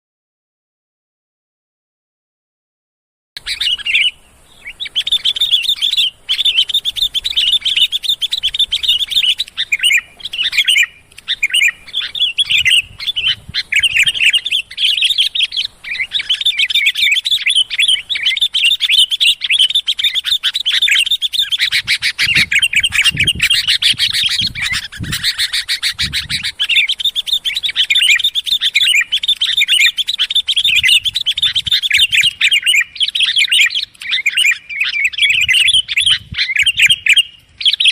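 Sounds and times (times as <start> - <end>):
bulbuls chirping and calling: 3.4 - 37.9.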